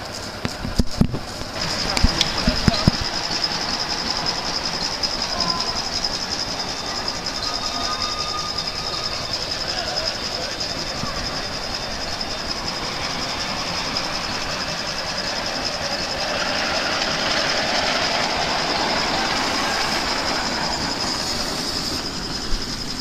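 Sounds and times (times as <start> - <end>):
miniature steam locomotive running: 0.0 - 23.0
train wheels on track: 0.0 - 23.0.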